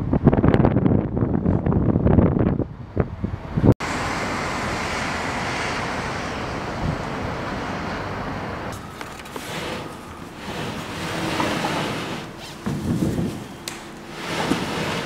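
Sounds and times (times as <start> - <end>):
city traffic roar: 0.0 - 15.0
wind buffeting microphone: 0.0 - 15.0.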